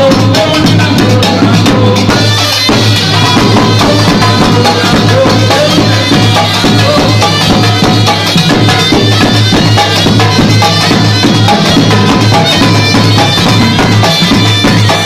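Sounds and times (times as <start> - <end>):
frame drums beating rhythm: 0.0 - 15.0.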